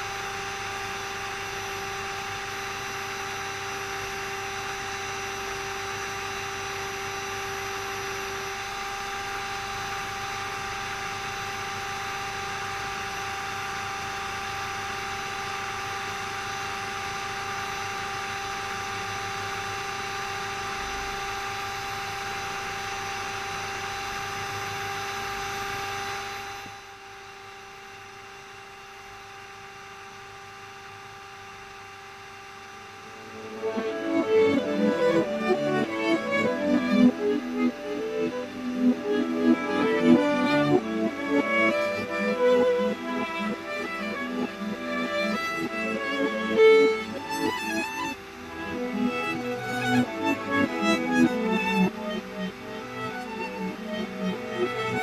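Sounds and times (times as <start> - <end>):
machine humming: 0.0 - 55.0
quieter hum: 0.0 - 55.0.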